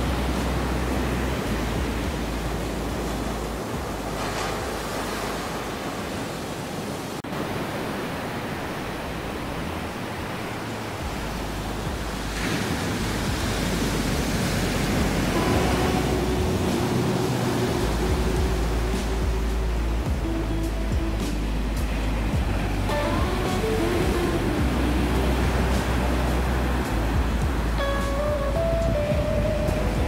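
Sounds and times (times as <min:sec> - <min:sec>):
ocean surf on a beach: 0:00.0 - 0:30.0.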